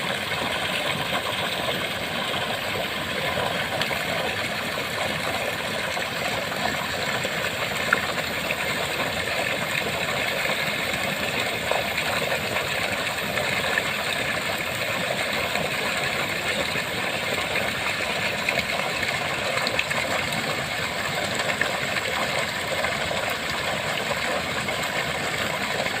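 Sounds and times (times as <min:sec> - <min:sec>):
small waterfall splashing: 0:00.0 - 0:26.0.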